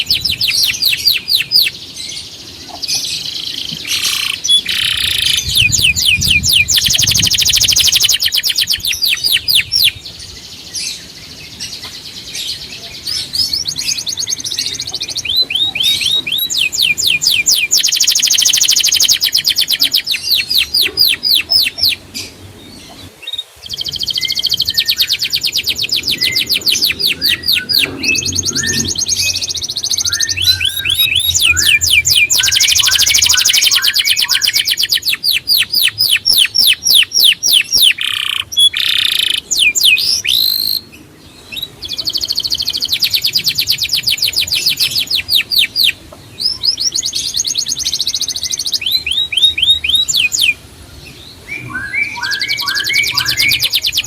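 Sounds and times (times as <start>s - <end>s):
songbird trilling: 0.0s - 50.6s, 51.3s - 54.0s.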